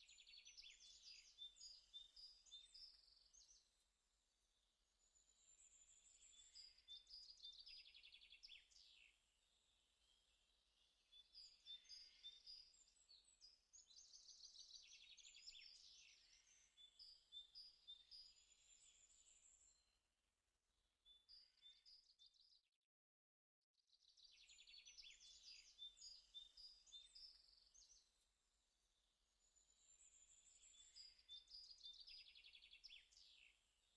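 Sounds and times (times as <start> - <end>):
birds chirping and trilling: 0.0 - 3.8, 5.0 - 19.8, 24.1 - 28.2, 29.0 - 33.9.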